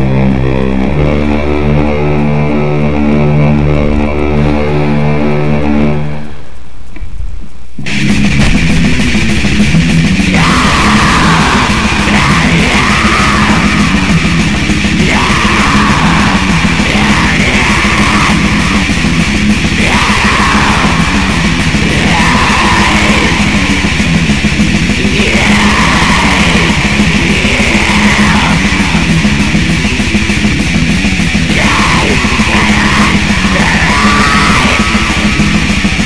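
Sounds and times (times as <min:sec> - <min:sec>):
heavy metal song: 0:00.0 - 0:07.0, 0:07.7 - 0:36.0.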